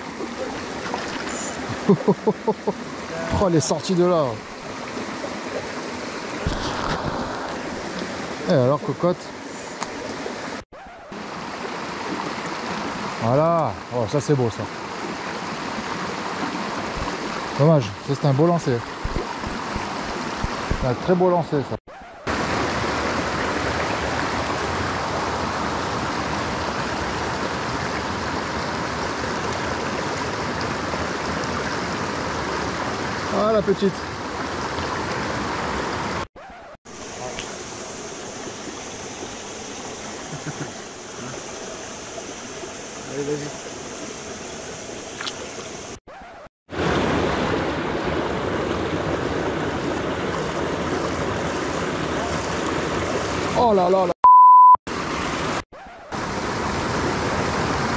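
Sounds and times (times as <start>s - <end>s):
stream rushing over rocks: 0.0s - 21.7s, 22.3s - 36.3s, 36.9s - 46.0s, 46.7s - 54.1s, 54.9s - 57.9s.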